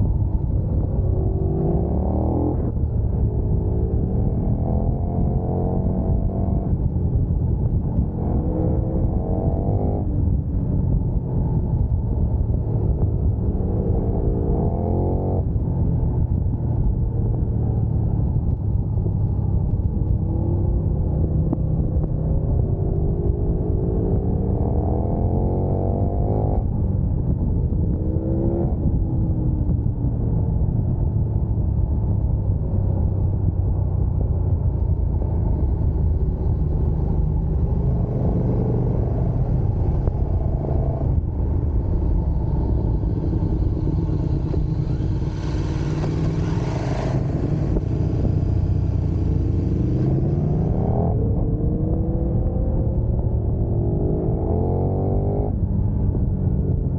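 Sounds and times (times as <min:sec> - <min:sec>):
low wind rumble: 0:00.0 - 0:56.9
motorcycle engine revving and shifting: 0:00.0 - 0:56.9.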